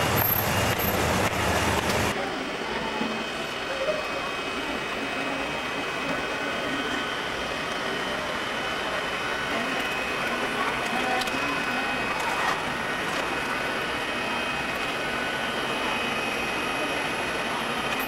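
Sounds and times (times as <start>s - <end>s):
constant rushing hum: 0.0s - 18.0s
thin high whine: 0.0s - 18.0s.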